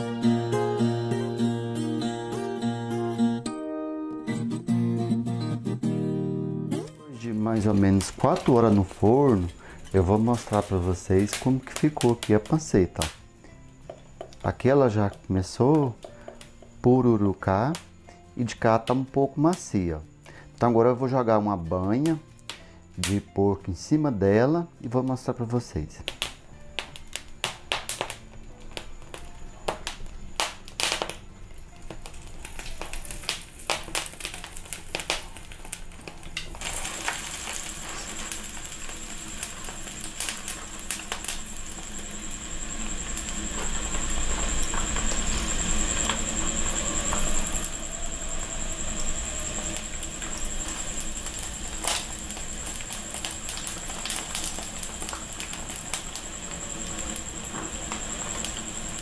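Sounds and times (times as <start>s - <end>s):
pork skin sizzling and crackling: 7.2s - 20.6s, 22.0s - 23.4s, 25.7s - 59.0s
wood stove popping and crackling: 7.2s - 20.8s, 21.6s - 23.8s, 25.2s - 59.0s.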